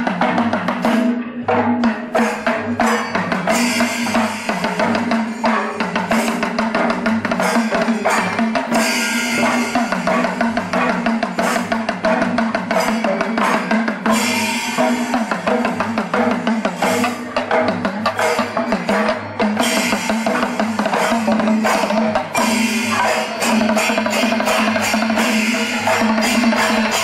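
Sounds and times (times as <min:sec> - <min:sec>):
busy drum beat: 0:00.0 - 0:27.0.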